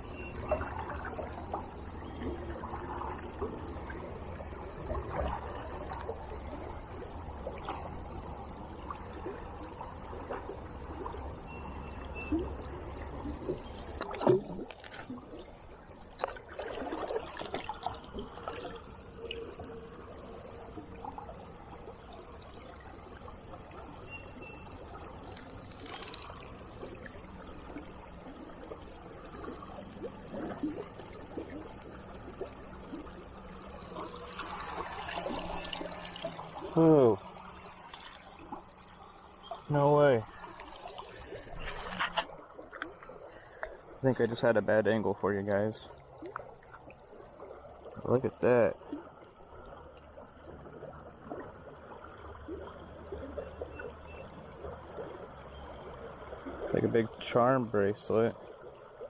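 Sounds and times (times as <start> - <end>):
river water sloshing around legs: 0.0 - 59.0.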